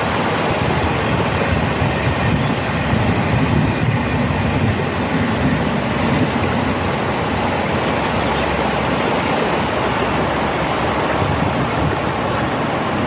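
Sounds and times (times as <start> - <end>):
water rushing down steps: 0.0 - 13.0.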